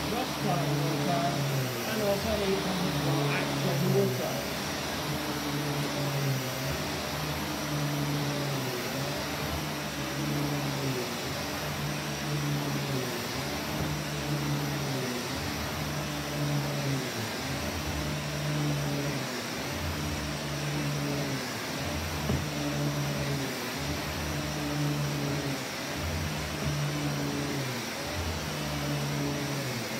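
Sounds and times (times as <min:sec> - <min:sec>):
upright vacuum cleaner on carpet: 0:00.0 - 0:29.9.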